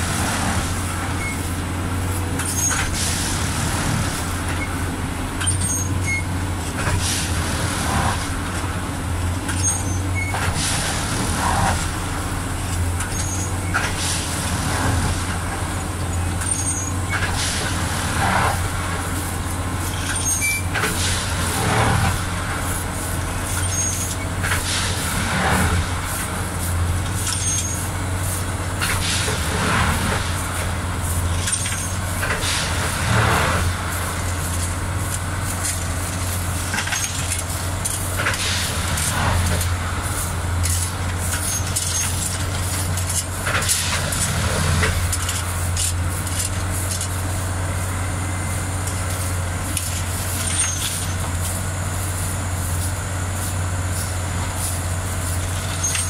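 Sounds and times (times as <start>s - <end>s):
bursts of hiss and clatter: 0.0s - 56.0s.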